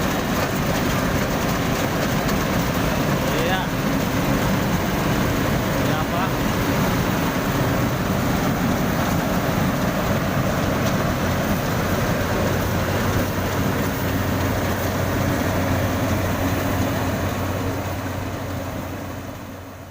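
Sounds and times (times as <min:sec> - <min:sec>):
diesel engine droning: 0:00.0 - 0:19.9.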